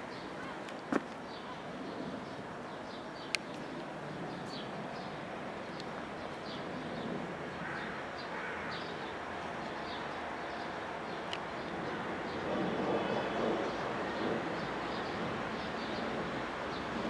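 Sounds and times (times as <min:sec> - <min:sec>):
traffic hum: 0:00.0 - 0:17.0.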